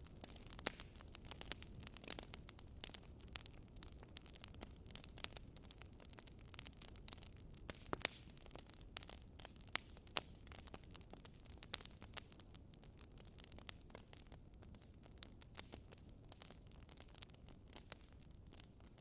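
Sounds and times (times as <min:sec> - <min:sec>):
fire pops and snaps: 0:00.0 - 0:19.0
low rumble of burning firewood: 0:00.0 - 0:19.0.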